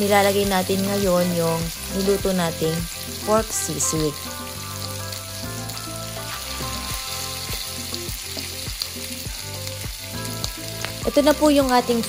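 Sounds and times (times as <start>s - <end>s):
background music with held notes: 0.0s - 12.0s
meat sizzling on hot plate: 0.0s - 12.0s.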